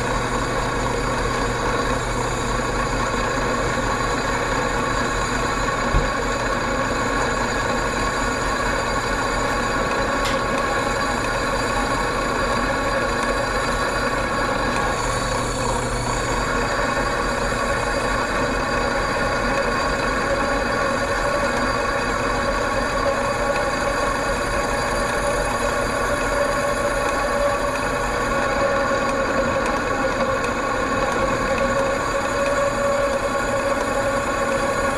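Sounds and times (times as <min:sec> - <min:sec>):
drill bit grinding into steel: 0:00.0 - 0:34.9
drill press motor running: 0:00.0 - 0:34.9.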